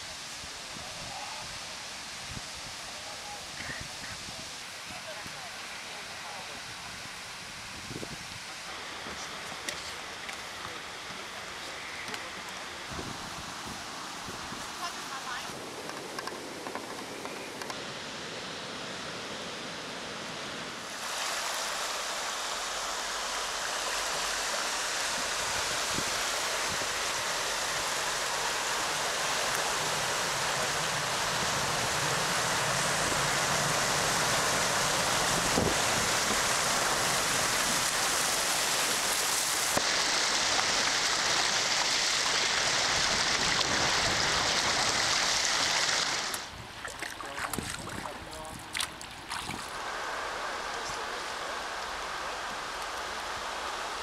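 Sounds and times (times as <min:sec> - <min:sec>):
river water rushing: 0:08.5 - 0:54.0.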